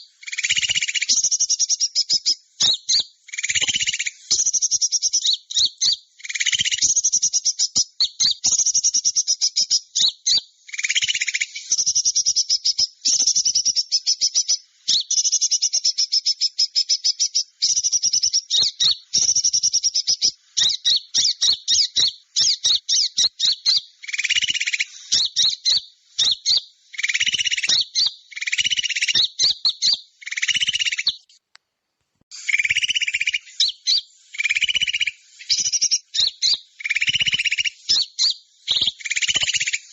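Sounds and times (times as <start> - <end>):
high-pitched bird chirping and trilling: 0.0 - 31.4, 32.3 - 39.9.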